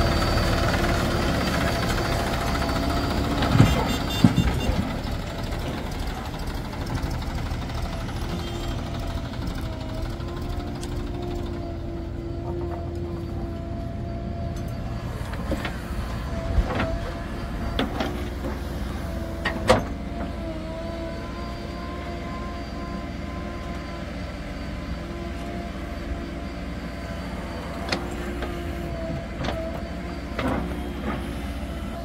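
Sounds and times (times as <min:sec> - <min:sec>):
wavering machine whine: 0:00.0 - 0:04.1, 0:07.8 - 0:19.1, 0:20.2 - 0:32.0
diesel machinery engine rumble: 0:00.0 - 0:32.0.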